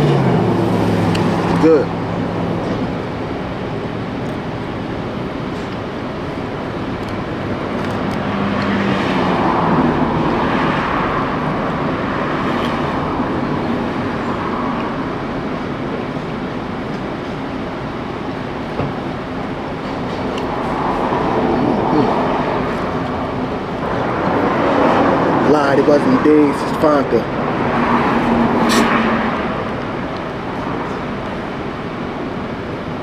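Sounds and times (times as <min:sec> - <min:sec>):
road traffic noise: 0:00.0 - 0:33.0
vehicle passing: 0:00.0 - 0:33.0.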